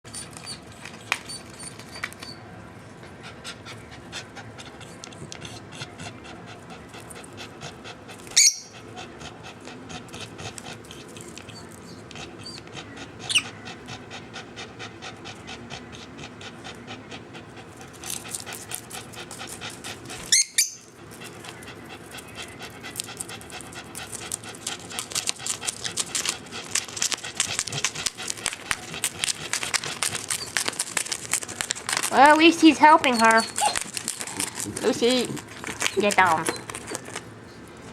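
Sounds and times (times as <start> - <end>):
dog panting rapidly: 3.0 - 37.2.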